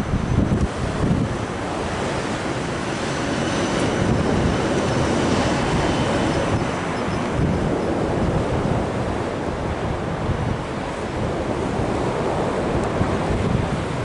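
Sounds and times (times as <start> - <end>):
blizzard wind buffeting microphone: 0.0 - 14.0.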